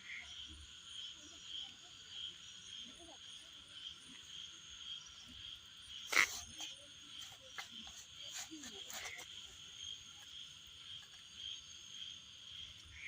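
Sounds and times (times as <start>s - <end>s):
faint frog calls: 0.0s - 13.0s.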